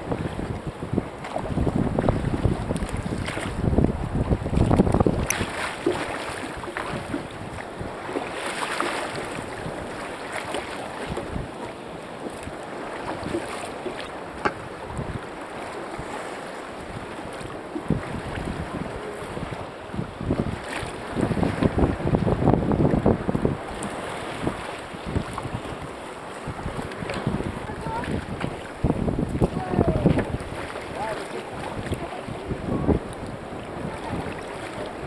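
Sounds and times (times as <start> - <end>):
water slapping and splashing: 0.0 - 35.0
wind buffeting microphone: 0.0 - 35.0.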